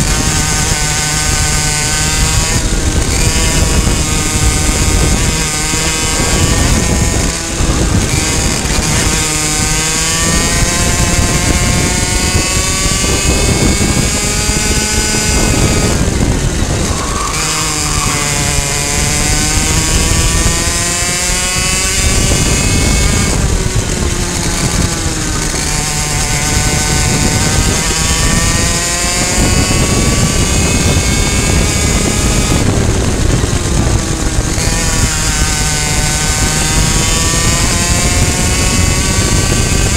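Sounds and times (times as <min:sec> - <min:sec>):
kart engine at high revs: 0:00.0 - 0:39.9.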